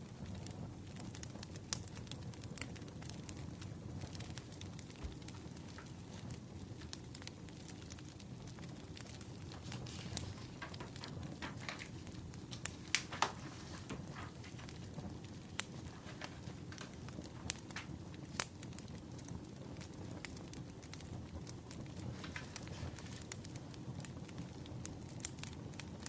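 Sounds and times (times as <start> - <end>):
firewood crackling and popping: 0.0 - 26.0
steady low rush of fire: 0.0 - 26.0.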